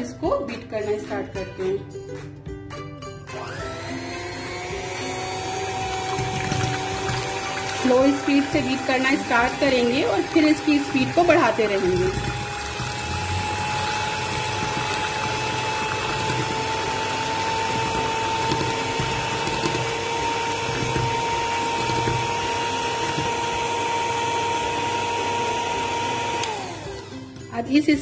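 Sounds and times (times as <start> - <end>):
electric hand mixer whining: 3.3 - 27.8.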